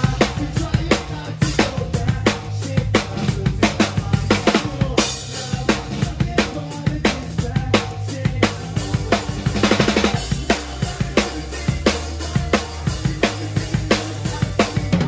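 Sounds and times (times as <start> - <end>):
bass and guitars: 0.0 - 15.0.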